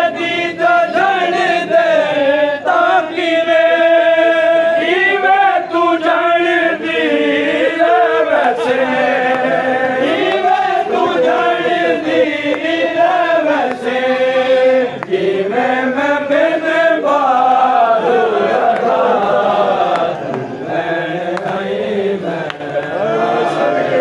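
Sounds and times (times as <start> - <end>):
men chanting a lament: 0.0 - 24.0.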